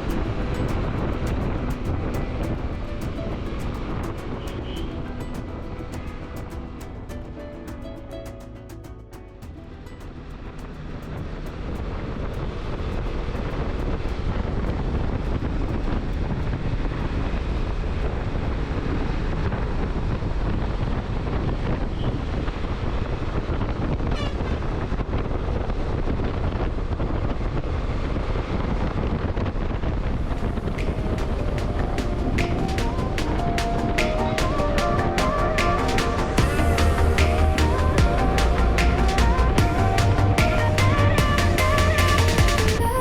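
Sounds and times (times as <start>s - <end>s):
road noise: 0.0s - 43.0s
wind buffeting microphone: 0.0s - 43.0s.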